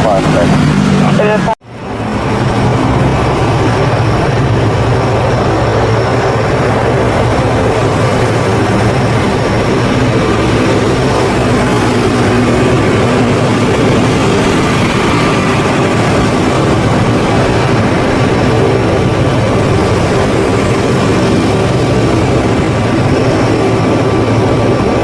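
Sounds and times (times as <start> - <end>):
turboprop engines running: 0.0 - 25.0.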